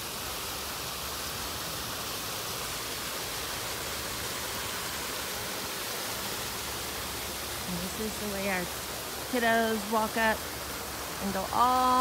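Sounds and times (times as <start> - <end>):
water splashing hiss: 0.0 - 12.0.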